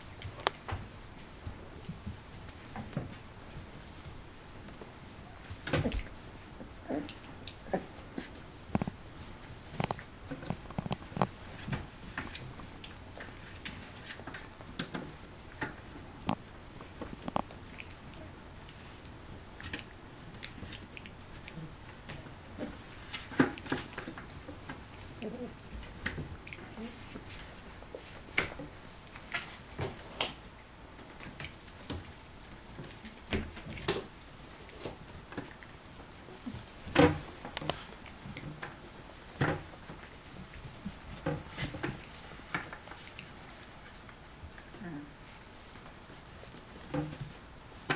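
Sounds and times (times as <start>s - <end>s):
claws clicking on a smooth floor: 0.0s - 47.9s
puppies scuffling: 0.0s - 47.9s.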